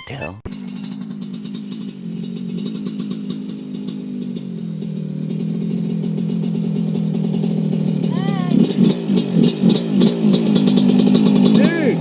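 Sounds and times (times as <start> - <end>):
dirt bike engine running: 0.5 - 12.0.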